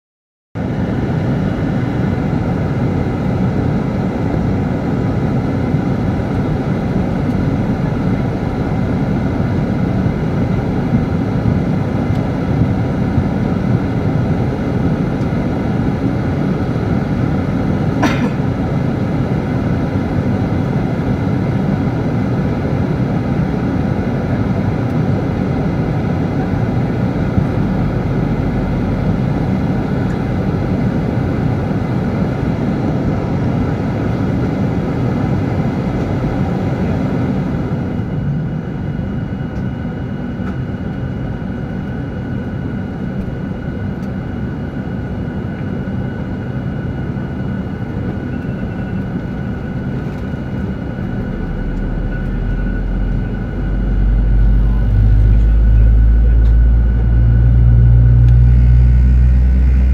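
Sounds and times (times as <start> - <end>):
airliner engine and cabin noise: 0.6 - 59.9.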